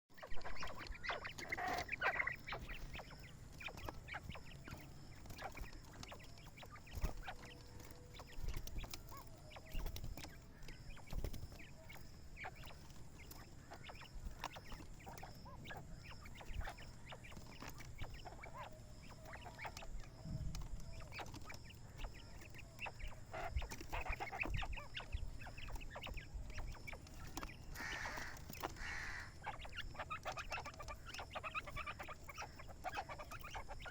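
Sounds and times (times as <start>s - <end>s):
quail calling: 0.1s - 33.9s.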